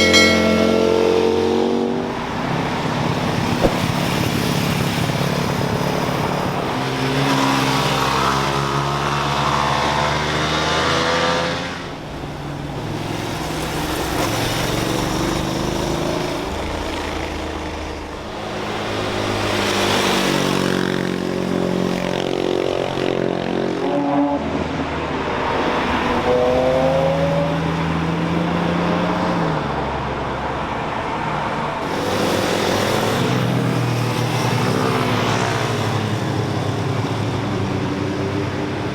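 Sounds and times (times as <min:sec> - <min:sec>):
high-revving engines passing: 0:00.0 - 0:38.9.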